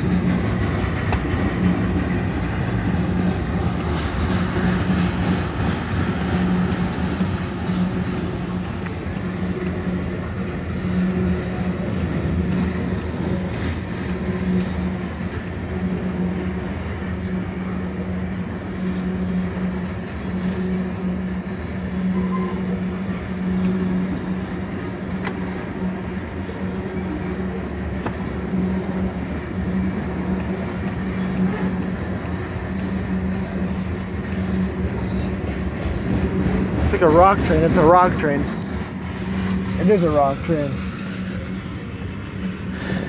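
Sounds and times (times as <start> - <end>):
train wheels rumbling: 0.0 - 43.0.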